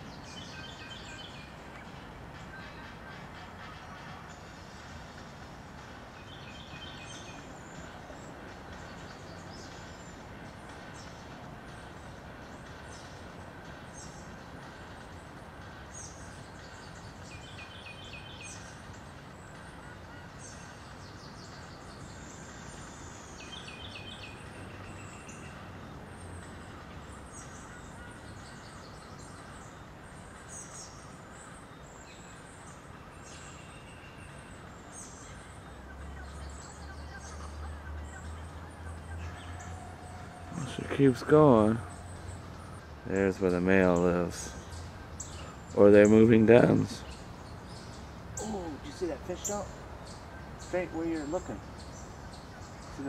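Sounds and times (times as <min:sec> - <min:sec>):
songbirds singing and chirping: 0:00.0 - 0:53.0
steady background hiss: 0:00.0 - 0:53.0.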